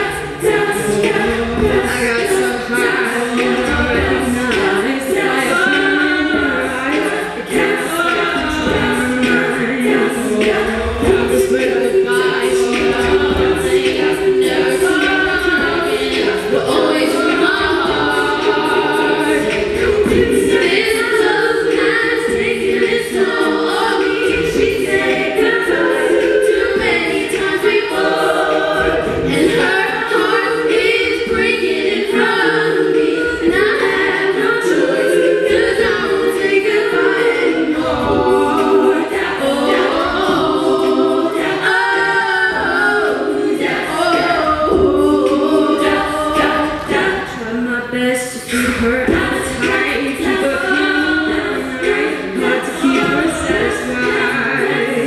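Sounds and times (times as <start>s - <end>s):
women singing a cappella: 0.0s - 55.0s.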